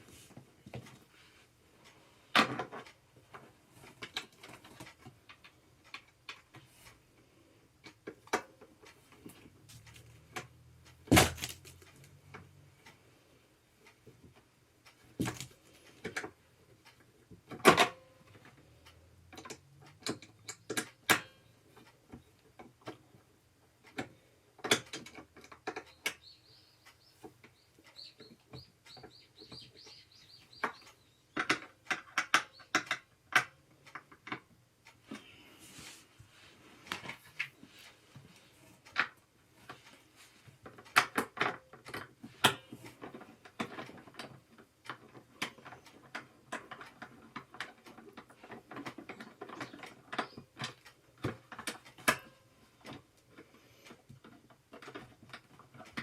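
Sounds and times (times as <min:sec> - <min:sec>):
chair parts clicking and knocking: 0:00.0 - 0:01.2, 0:02.2 - 0:07.0, 0:07.8 - 0:13.0, 0:13.8 - 0:35.5, 0:36.8 - 0:56.0.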